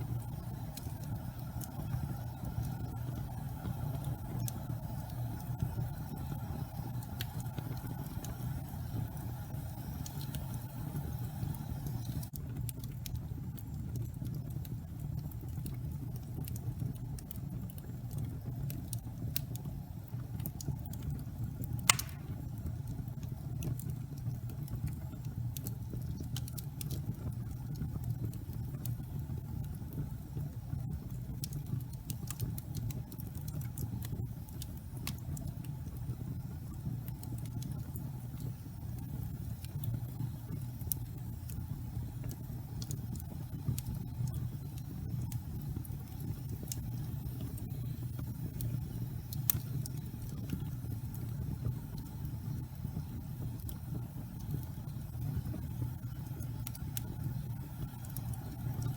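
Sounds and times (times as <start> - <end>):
fire rumbling: 0.0 - 58.9
wood fire crackling and popping: 0.0 - 58.9.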